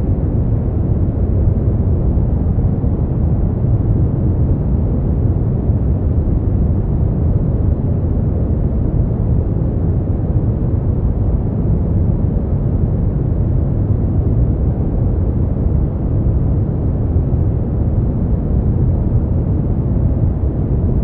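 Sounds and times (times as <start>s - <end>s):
deep rumbling brown noise: 0.0s - 21.0s.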